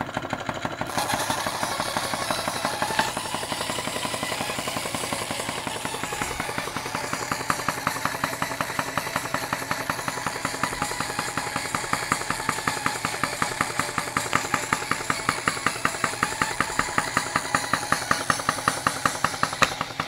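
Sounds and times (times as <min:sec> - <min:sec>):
small engine clicking steadily: 0:00.0 - 0:20.0.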